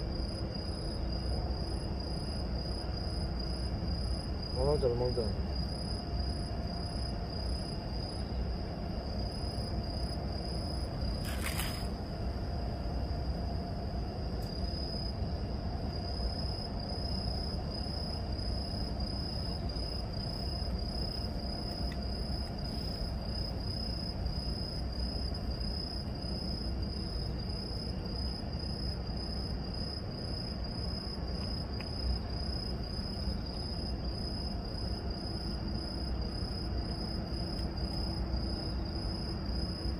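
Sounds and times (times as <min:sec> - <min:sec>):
crickets chirping: 0:00.0 - 0:39.9
low background hum: 0:00.0 - 0:39.9.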